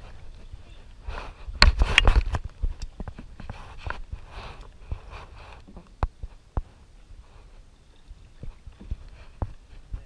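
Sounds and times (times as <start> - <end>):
paddle strokes swishing through water: 0.0 - 10.0
pole rustling in life jacket: 0.0 - 10.0.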